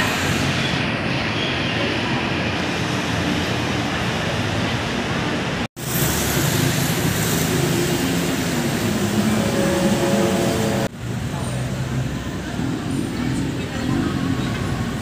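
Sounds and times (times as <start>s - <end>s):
traffic noise: 0.0s - 15.0s
voices of passers-by: 0.0s - 15.0s.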